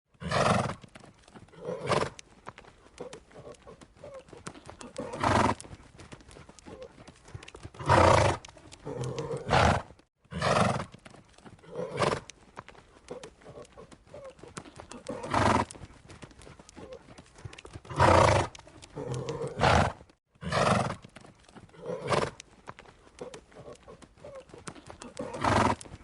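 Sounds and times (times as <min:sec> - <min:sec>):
horse snorting: 0:00.1 - 0:02.2, 0:02.9 - 0:05.8, 0:06.6 - 0:12.3, 0:13.1 - 0:15.9, 0:16.7 - 0:21.1, 0:21.7 - 0:22.4, 0:23.1 - 0:26.0.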